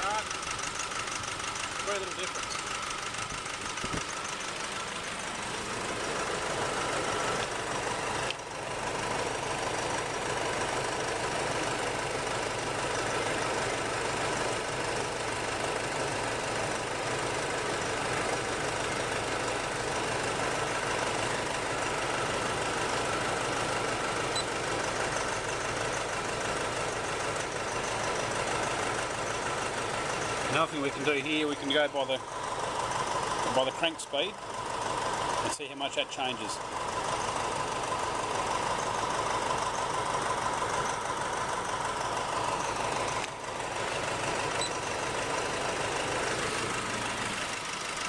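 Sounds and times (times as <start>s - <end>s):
diesel engine idling with knock: 0.0s - 48.0s.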